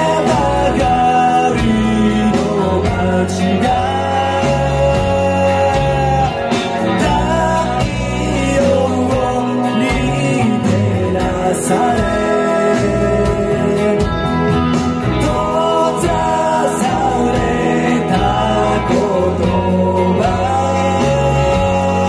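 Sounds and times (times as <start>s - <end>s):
drums: 0.0s - 22.0s
electric guitar: 0.0s - 22.0s
man singing: 0.0s - 22.0s.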